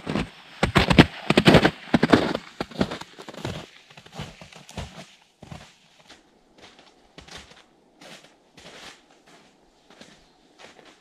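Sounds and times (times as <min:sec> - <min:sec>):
footsteps crunching on snow: 0:00.0 - 0:11.0.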